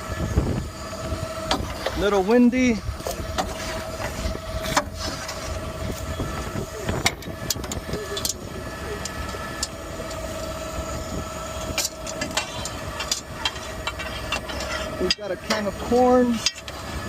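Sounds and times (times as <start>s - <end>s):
garbage truck idling: 0.0s - 17.0s.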